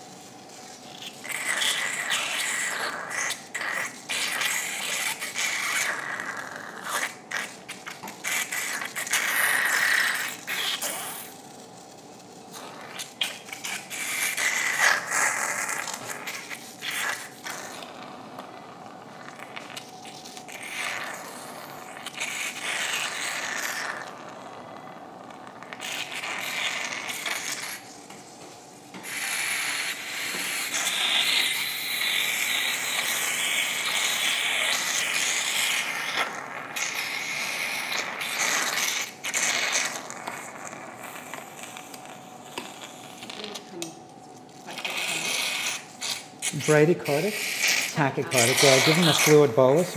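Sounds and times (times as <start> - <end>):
surgical suction hissing: 0.0 - 43.7, 44.5 - 49.9.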